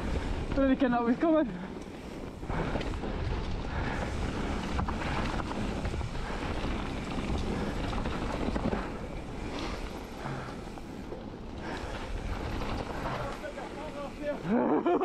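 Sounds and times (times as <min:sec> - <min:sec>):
bike knocking and rattling: 0:00.0 - 0:15.0
tyres rushing on gravel: 0:00.0 - 0:15.0.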